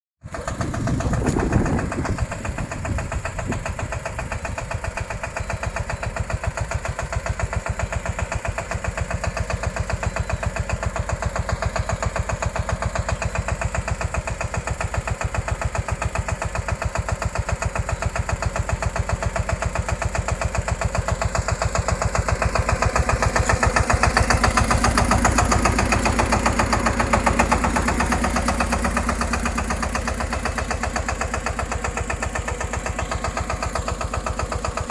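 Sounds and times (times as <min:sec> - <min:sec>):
tractor engine chugging: 0:00.2 - 0:34.9.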